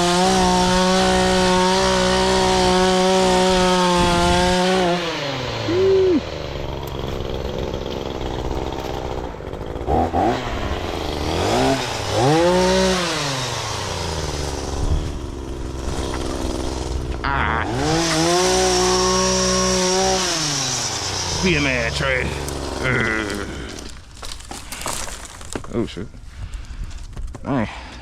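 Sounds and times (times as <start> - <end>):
chainsaw engine revving: 0.0 - 25.5.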